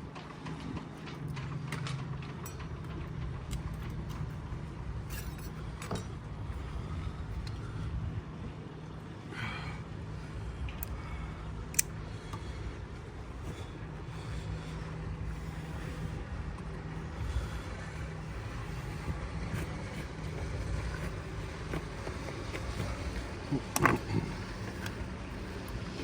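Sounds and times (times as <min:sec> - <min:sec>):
low rumble with faint hum: 0:00.0 - 0:26.0.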